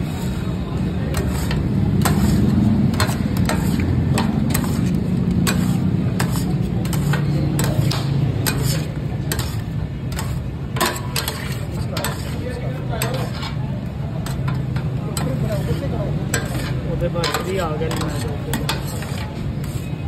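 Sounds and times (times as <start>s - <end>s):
metal scrapers on steel griddle: 0.0s - 20.0s.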